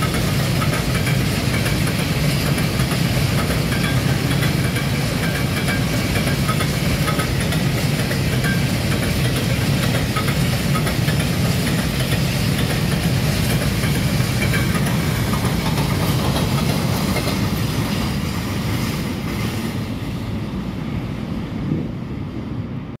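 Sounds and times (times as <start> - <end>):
freight train rolling on rails: 0.0 - 23.0.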